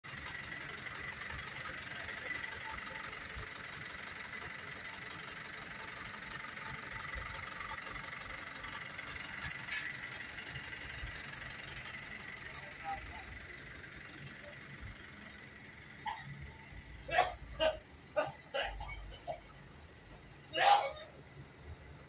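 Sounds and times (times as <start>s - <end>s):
traffic noise: 0.0s - 22.0s
vehicle engine running low: 0.0s - 22.0s.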